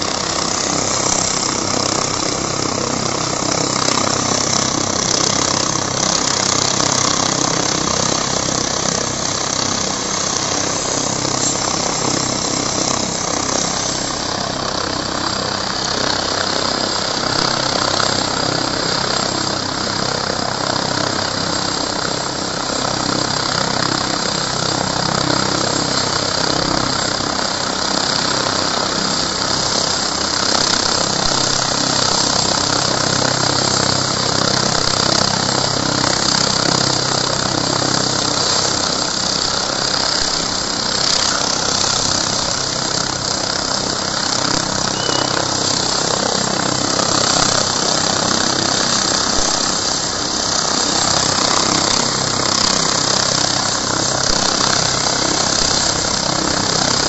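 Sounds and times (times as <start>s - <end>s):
helicopter turbine whine: 0.0s - 57.0s
rotor hum: 0.0s - 57.0s.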